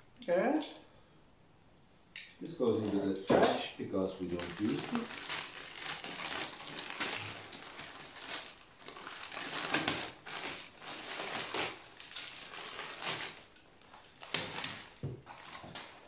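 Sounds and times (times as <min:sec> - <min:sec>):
plastic bag crinkling: 0:02.5 - 0:16.0.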